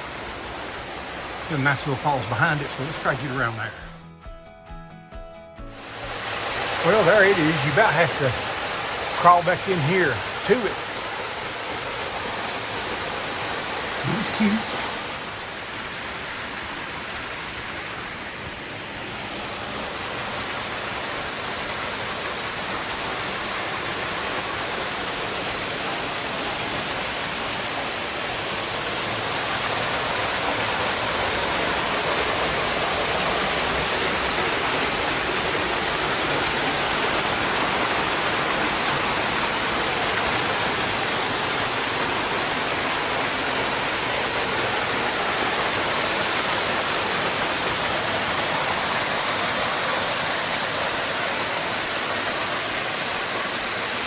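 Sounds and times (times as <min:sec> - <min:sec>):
waterfall pouring over rocks: 0:00.0 - 0:03.9, 0:05.8 - 0:54.0.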